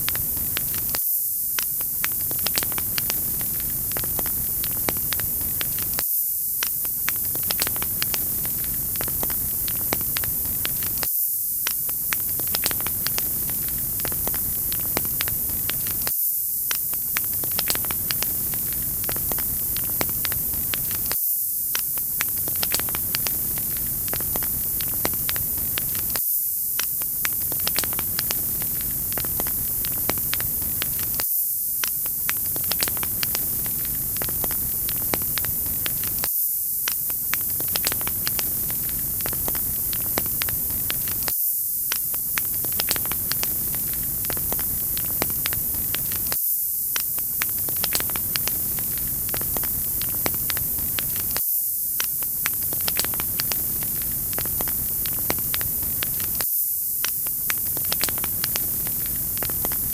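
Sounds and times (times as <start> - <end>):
wood fire crackling: 0.0 - 1.0, 1.6 - 6.0, 6.6 - 16.1, 16.7 - 26.2, 26.8 - 31.2, 31.8 - 36.3, 36.9 - 41.3, 41.9 - 51.4, 52.0 - 56.4, 57.0 - 59.9.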